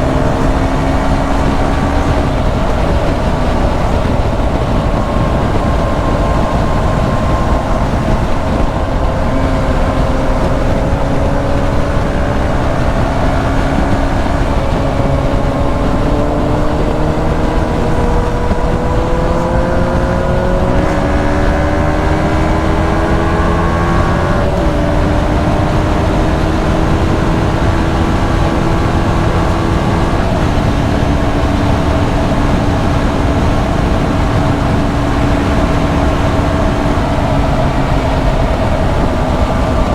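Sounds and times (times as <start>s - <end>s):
heavy wind: 0.0s - 39.9s
motorcycle engine running: 0.0s - 39.9s
road rush: 0.0s - 39.9s.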